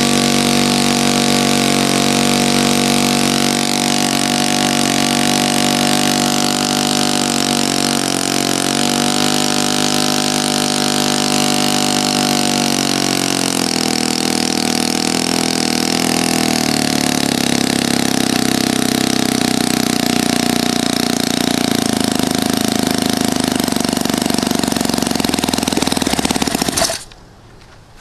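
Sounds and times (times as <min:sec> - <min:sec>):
model engine running: 0:00.0 - 0:27.2.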